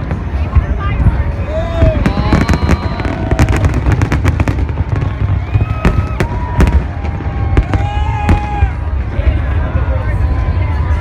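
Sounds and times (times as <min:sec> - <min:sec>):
fireworks cracking and popping: 0:00.0 - 0:09.5.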